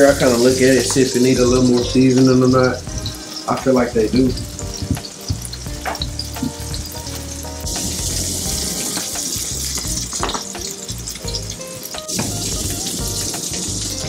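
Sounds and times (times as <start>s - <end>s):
burger patties sizzling: 0.0s - 14.0s.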